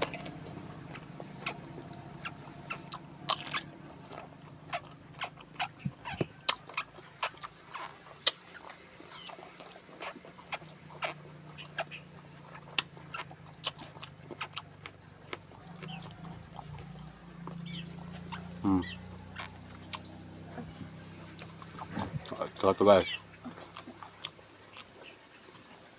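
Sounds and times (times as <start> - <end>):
low steady hum: 0.0 - 25.9
person chewing with wet smacks: 0.0 - 25.9.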